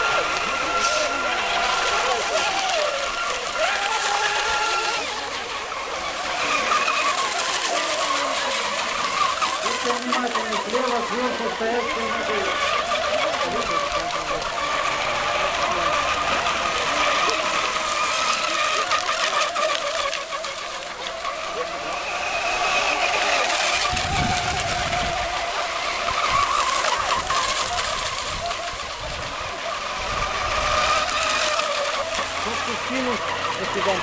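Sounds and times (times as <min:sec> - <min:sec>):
model boat engines whining: 0:00.0 - 0:34.0.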